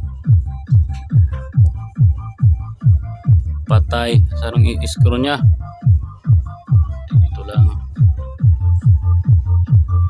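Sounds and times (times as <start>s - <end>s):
deep bass line: 0.0s - 10.0s
heavy kick drum: 0.0s - 10.0s.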